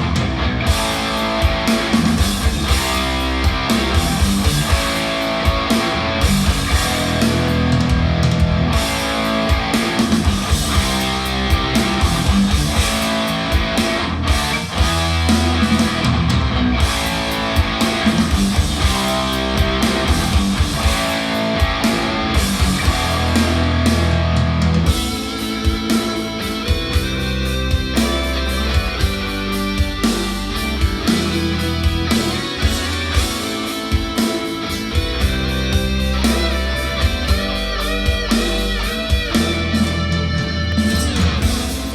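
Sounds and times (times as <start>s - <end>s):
rock music with electric guitar: 0.0s - 41.9s.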